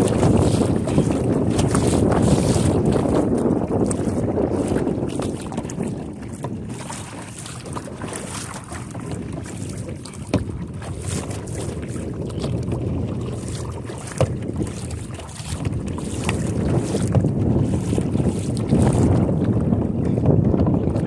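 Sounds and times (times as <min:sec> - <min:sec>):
kayak paddle stroking water: 0:00.0 - 0:21.0
wind buffeting microphone: 0:00.0 - 0:21.0.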